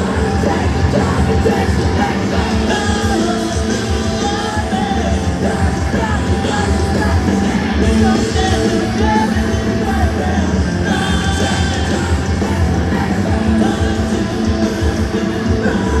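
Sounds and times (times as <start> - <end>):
bass guitar: 0.0 - 16.0
distorted electric guitars: 0.0 - 16.0
drums: 0.0 - 16.0
sung and yelled vocals: 0.0 - 16.0.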